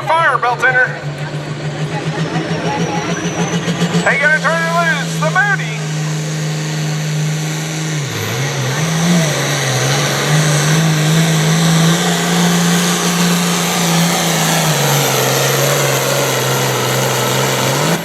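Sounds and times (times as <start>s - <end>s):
tractor diesel engine at full throttle: 0.0s - 18.0s.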